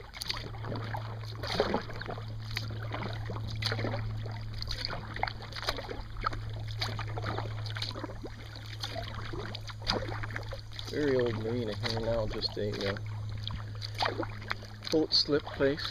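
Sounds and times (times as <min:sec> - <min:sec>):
paddle strokes in water: 0:00.0 - 0:15.9
steady low hum: 0:00.0 - 0:15.9.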